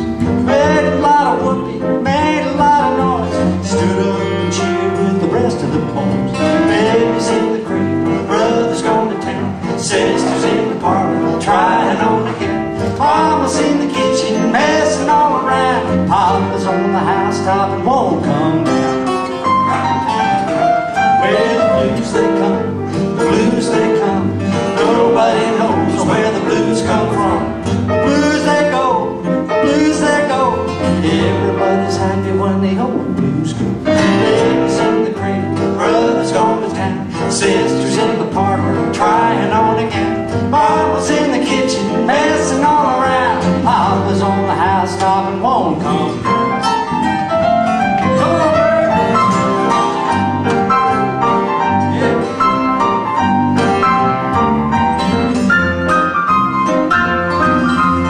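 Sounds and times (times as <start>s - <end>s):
acoustic guitars playing: 0.0s - 58.0s.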